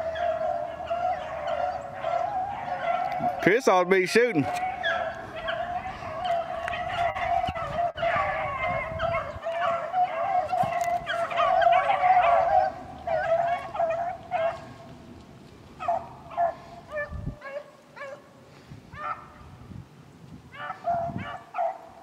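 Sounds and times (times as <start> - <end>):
dogs baying and yelping: 0.0 - 15.0, 15.7 - 19.5, 20.5 - 22.0.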